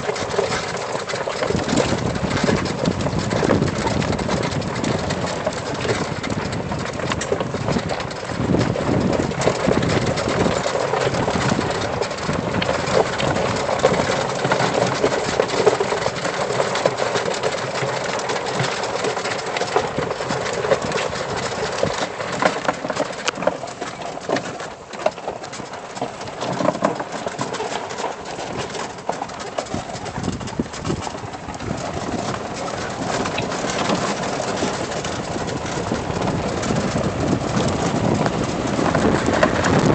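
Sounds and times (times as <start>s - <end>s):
small knocks and rattles: 0.0s - 39.9s
tyres rumbling on dirt: 0.0s - 39.9s.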